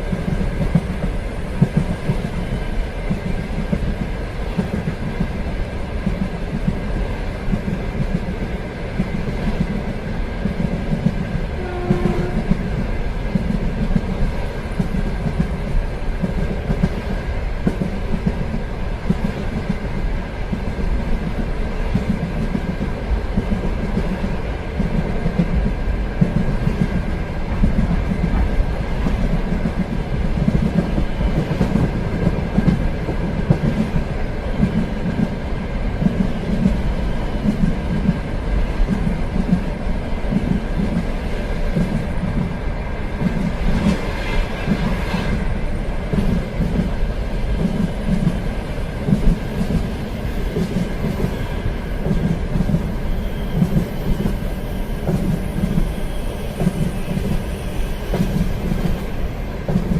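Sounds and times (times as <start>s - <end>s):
clickety-clack of train: 0.0s - 59.9s
train wheels rumbling on rail: 0.0s - 59.9s.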